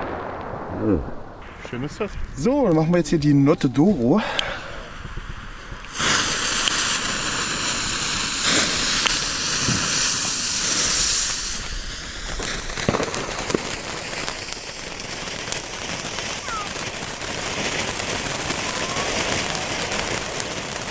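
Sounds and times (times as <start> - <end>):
sharp crackles: 0.0 - 20.9
firework fountains hissing: 1.4 - 20.9.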